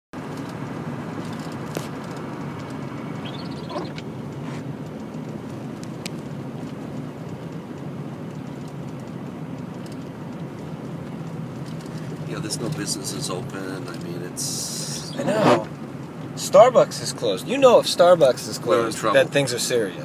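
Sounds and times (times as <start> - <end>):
vehicle engine and road rumble: 0.1 - 20.0.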